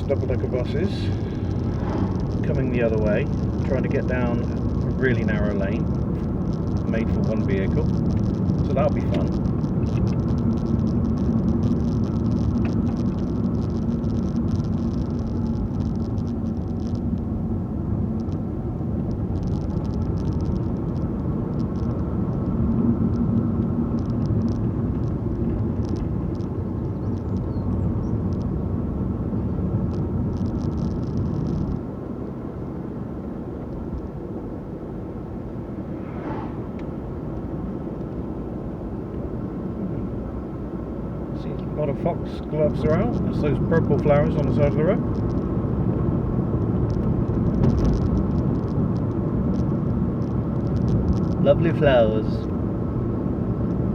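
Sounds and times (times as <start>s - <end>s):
car engine: 0.0s - 53.9s
road rumble: 0.0s - 53.9s.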